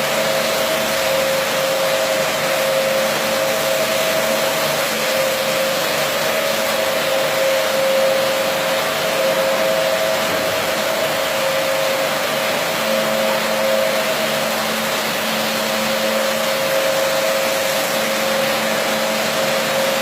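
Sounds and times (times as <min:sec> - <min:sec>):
carpet washing machine running: 0:00.0 - 0:20.0.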